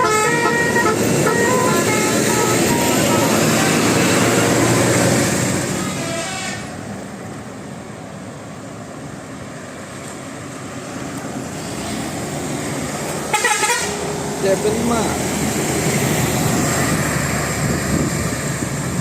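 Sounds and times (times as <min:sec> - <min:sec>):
bus passing: 0:00.0 - 0:19.0
vehicle approaching: 0:00.0 - 0:19.0
traffic hiss: 0:00.3 - 0:19.0.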